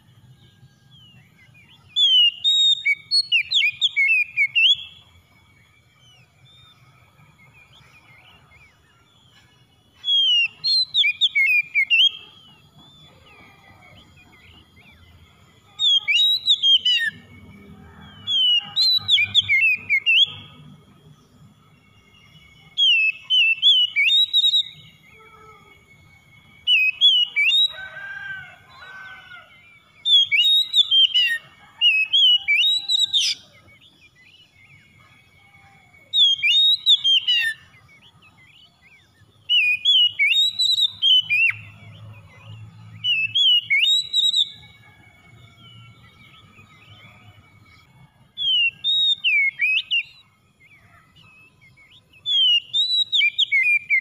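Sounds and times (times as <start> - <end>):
bird singing whistled phrases: 1.0 - 54.0.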